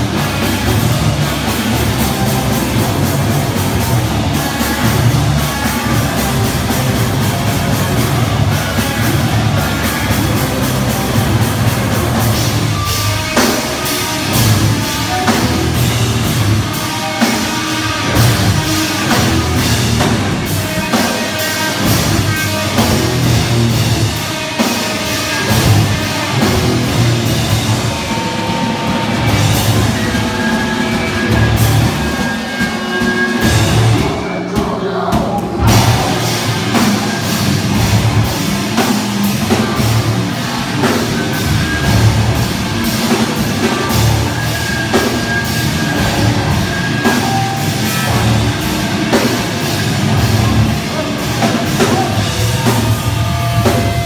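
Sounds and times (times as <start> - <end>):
live heavy rock band: 0.0 - 54.0.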